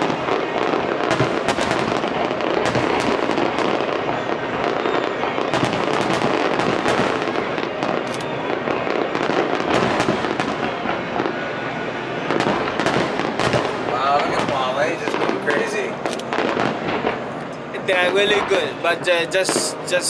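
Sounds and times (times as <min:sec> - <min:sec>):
fireworks bursts and crackling: 0:00.0 - 0:20.0.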